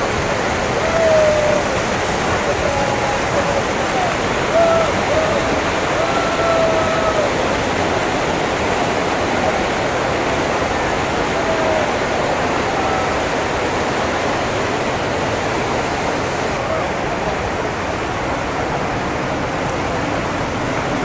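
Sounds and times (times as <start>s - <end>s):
waterfall and rapids roaring: 0.0s - 21.0s.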